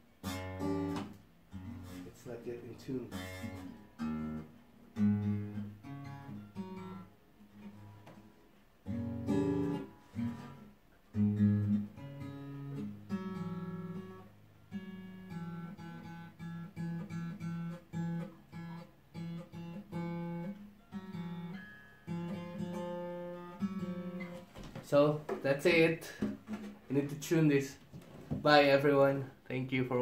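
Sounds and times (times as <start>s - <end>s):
acoustic guitar strummed chords: 0.0s - 27.7s
picked guitar notes: 0.0s - 28.0s.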